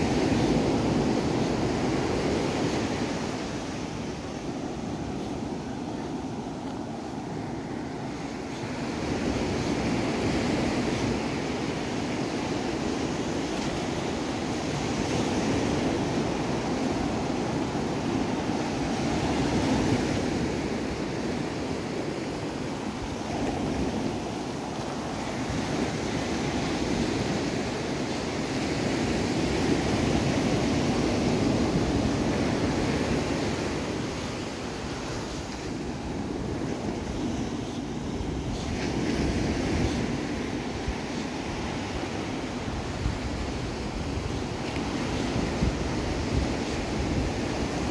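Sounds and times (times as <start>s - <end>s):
ocean surf breaking: 0.0s - 47.9s
wind rumble on microphone: 0.0s - 47.9s.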